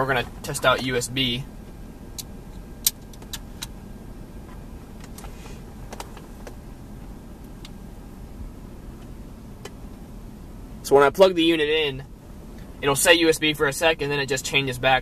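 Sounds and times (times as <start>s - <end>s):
low car cabin hum: 0.0s - 15.0s.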